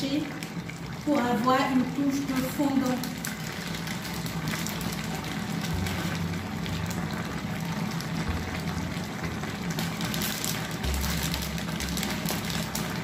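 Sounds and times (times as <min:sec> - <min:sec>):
sauce simmering in a pot: 0:00.0 - 0:13.0.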